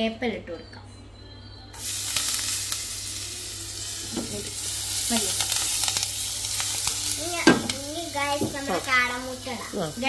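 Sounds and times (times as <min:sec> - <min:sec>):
leaves sizzling in hot oil: 0:01.8 - 0:10.0.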